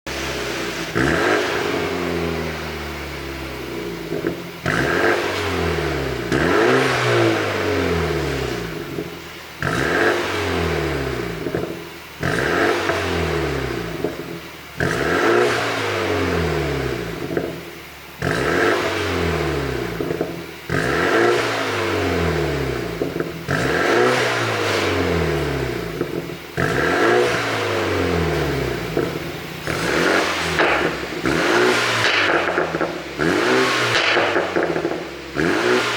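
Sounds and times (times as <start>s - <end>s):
car engine revving: 0.0s - 35.9s
exhaust crackles and pops: 0.1s - 35.9s.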